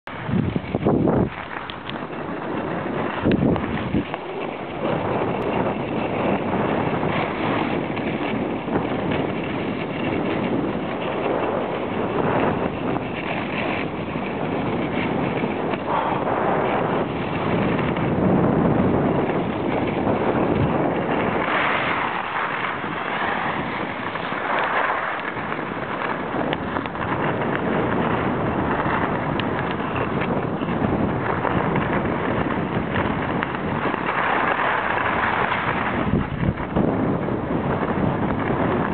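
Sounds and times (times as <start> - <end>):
skis scraping on packed snow: 0.0 - 38.9
wind rushing over microphone: 0.0 - 38.9.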